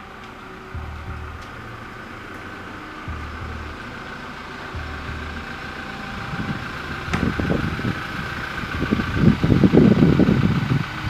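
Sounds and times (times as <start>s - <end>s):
pickup truck engine rumble: 0.0s - 11.0s.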